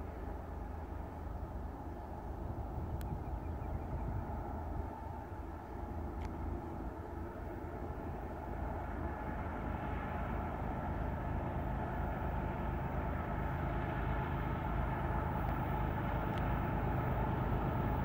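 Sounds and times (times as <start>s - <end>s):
diesel locomotive engine rumble: 0.0s - 18.0s.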